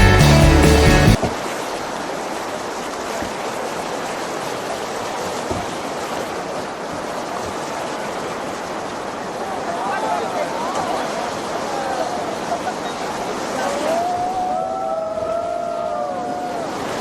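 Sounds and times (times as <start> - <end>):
rushing river water: 0.0 - 17.0.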